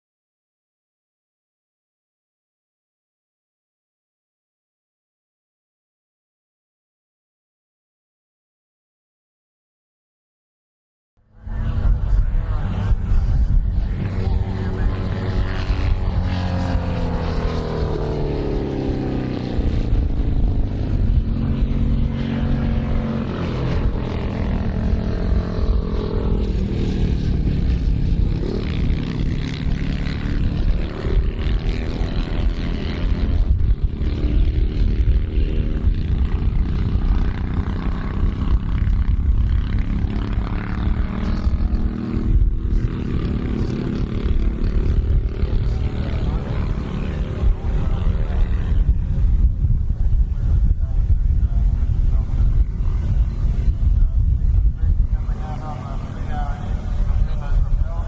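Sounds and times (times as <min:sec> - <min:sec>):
motorcycle engine revving: 0:11.3 - 0:58.0.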